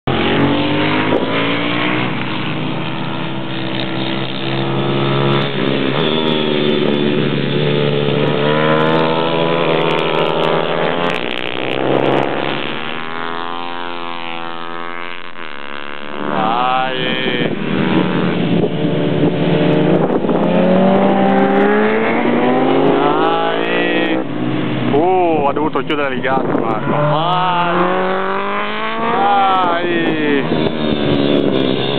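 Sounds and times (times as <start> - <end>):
pit bike engines revving: 0.0 - 31.9.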